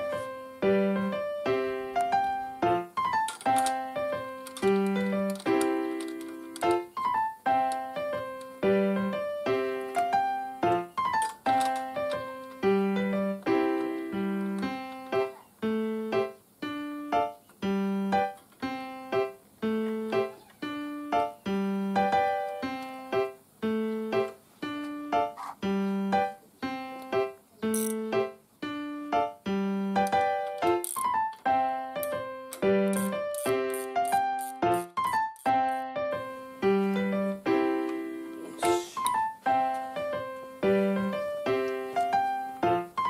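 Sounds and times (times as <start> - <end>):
bouncy keyboard tune: 0.0 - 43.0.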